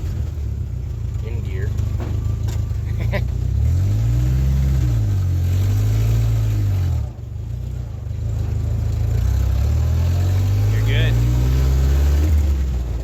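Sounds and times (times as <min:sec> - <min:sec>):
jeep engine pulling away: 0:00.0 - 0:13.0.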